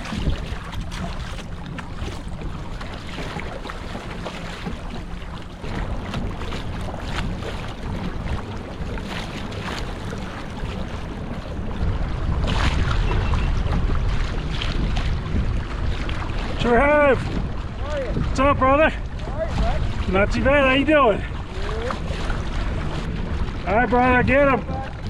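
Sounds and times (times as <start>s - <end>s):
water lapping against hull: 0.0s - 25.0s
wind buffeting microphone: 0.0s - 25.0s.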